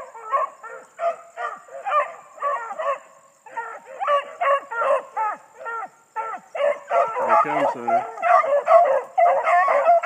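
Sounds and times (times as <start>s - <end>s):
dogs baying and yelping: 0.0s - 10.0s.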